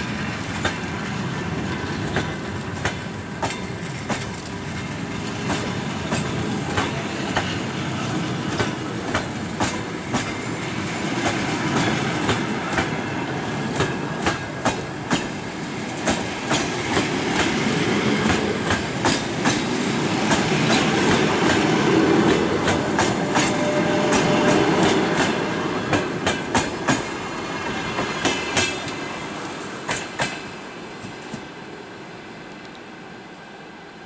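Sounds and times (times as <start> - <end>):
train wheels clacking over rail joints: 0.0 - 29.1, 29.8 - 31.5
train rumble: 0.0 - 34.0.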